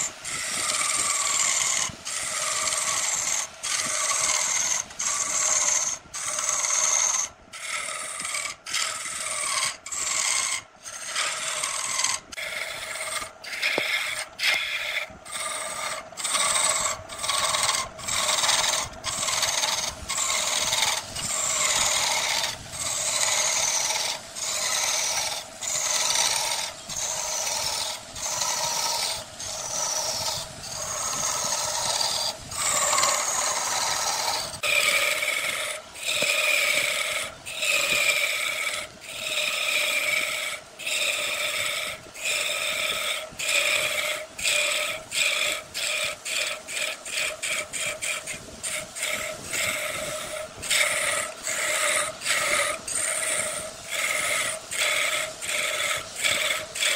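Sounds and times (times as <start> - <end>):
lathe tool scraping wood: 0.0 - 56.9.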